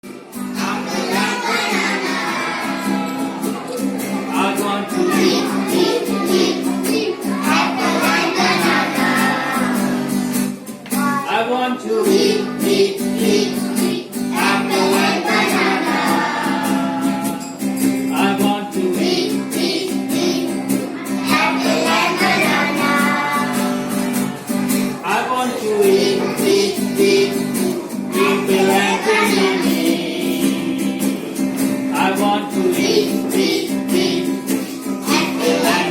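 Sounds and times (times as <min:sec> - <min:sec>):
instrumental accompaniment: 0:00.0 - 0:11.3, 0:12.1 - 0:35.9
person singing: 0:00.5 - 0:10.2, 0:11.1 - 0:35.9.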